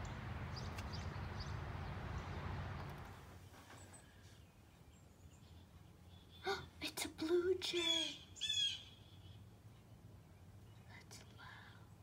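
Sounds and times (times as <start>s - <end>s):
faint songbird chirps: 0.0s - 12.0s
low outdoor rumble: 0.0s - 12.0s.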